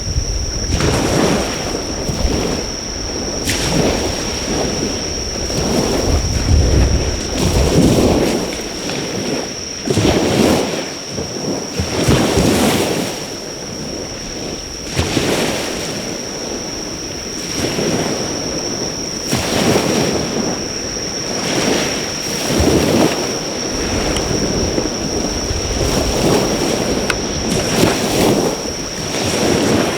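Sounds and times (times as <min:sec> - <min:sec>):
high-pitched insect call: 0:00.0 - 0:29.9
waves breaking on shore: 0:00.0 - 0:29.9.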